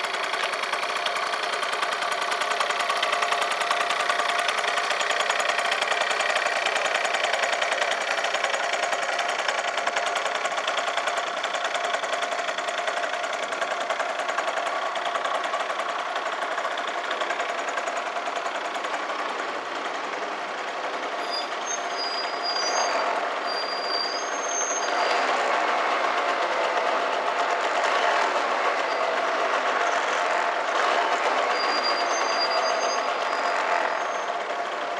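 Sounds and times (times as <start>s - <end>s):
scooter engine idling: 0.0s - 34.9s.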